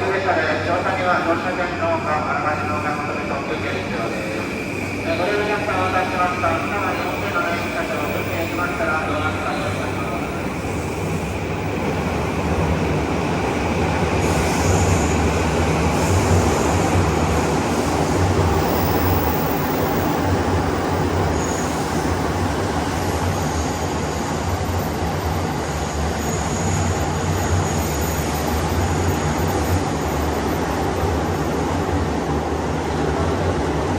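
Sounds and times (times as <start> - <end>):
train wheels and motors rumbling: 5.6 - 33.9.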